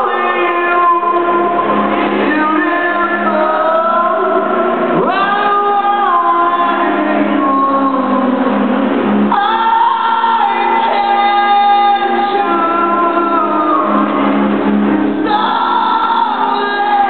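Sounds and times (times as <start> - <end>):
live rock band in large hall: 0.0 - 17.0
person singing long notes: 0.0 - 17.0.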